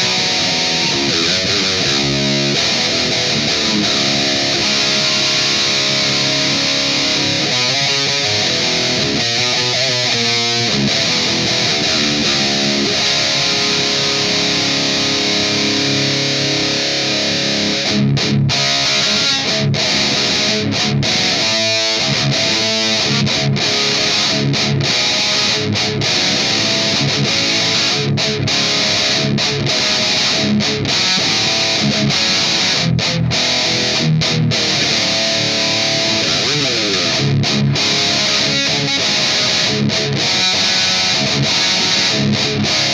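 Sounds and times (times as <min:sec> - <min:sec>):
distorted electric guitar riffing: 0:00.0 - 0:42.9.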